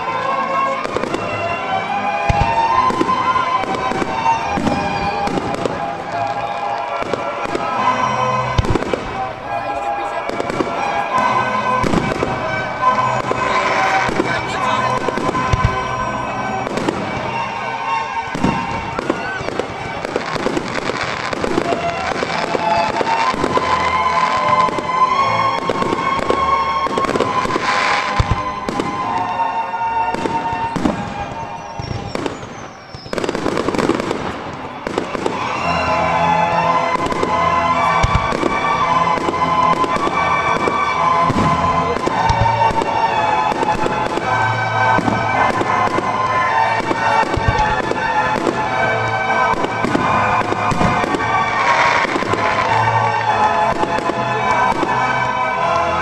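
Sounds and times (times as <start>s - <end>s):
fireworks bangs and crackling: 0.0s - 56.0s
music playing: 0.0s - 56.0s.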